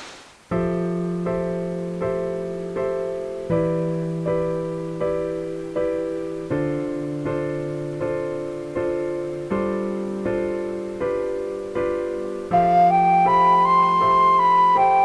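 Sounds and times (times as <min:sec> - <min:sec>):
gentle piano chords: 0:00.4 - 0:15.0.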